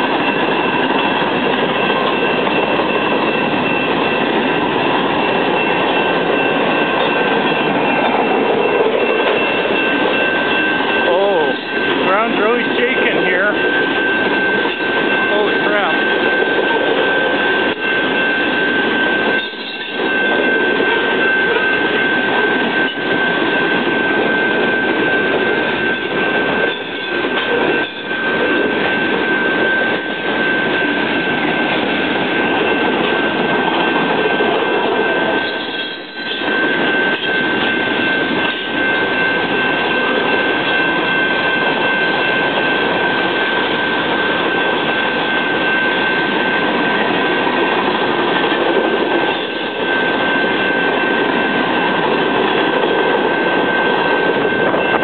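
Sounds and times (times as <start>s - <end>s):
freight train rumbling and rattling: 0.0s - 55.0s
thin high tone: 0.1s - 48.1s.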